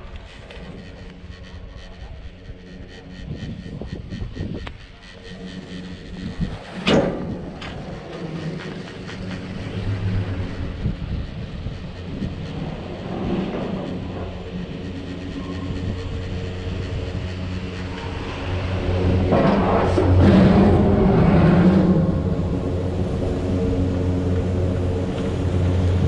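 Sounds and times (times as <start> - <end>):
chairlift mechanical hum: 0.0 - 26.0.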